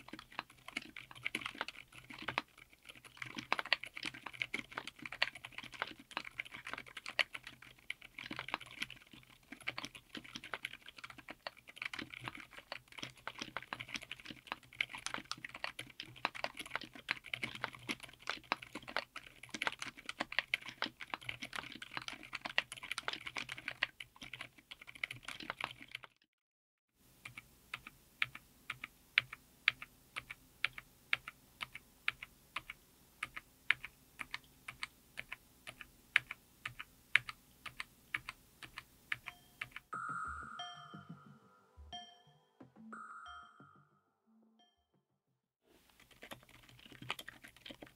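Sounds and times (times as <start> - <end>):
mechanical keyboard typing: 0.0 - 26.2, 27.2 - 39.9, 46.0 - 47.9.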